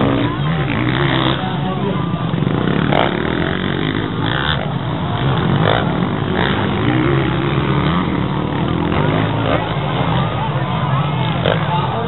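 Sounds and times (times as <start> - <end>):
dirt bike engines running: 0.0 - 12.0.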